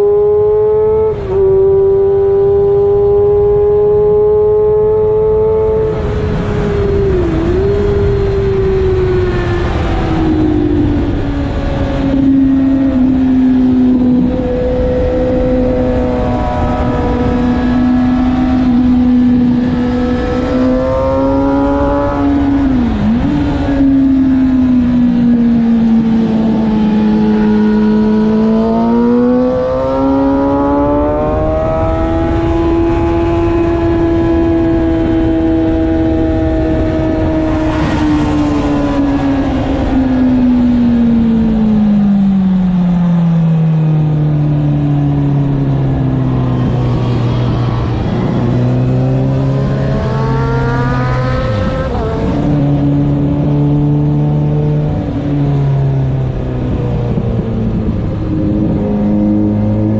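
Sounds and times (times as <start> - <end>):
motorcycle engine: 0.0 - 59.9
wind noise: 0.0 - 59.9.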